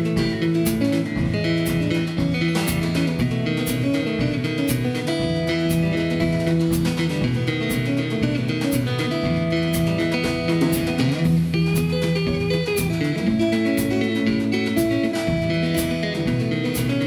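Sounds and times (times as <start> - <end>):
drum kit: 0.0 - 17.0
fingerpicked acoustic guitar: 0.0 - 17.0.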